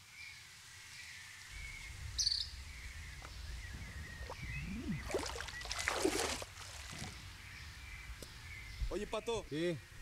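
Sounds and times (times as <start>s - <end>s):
insects droning: 0.1s - 10.0s.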